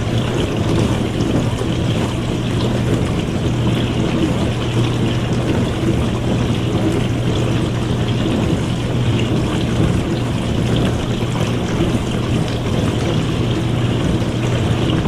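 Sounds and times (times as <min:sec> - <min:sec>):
dishwasher pump hum: 0:00.0 - 0:15.0
water spraying in dishwasher: 0:00.0 - 0:15.0.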